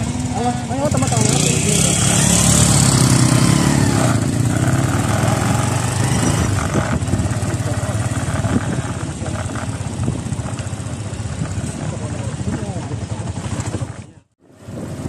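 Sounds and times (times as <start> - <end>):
small vehicle engine running: 0.0 - 15.0
wind on microphone: 1.9 - 15.0.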